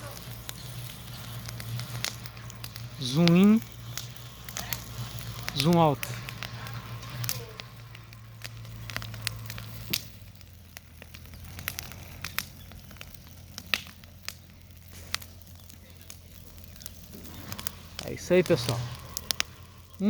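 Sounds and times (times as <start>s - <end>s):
steady low hum: 0.0s - 20.0s
wood fire crackling and popping: 0.0s - 20.0s.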